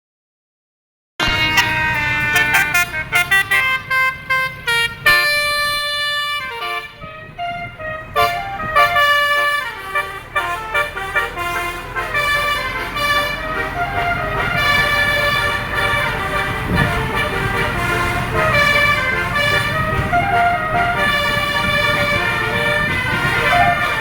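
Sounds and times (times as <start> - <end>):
musical air horn tune: 1.2 - 24.0.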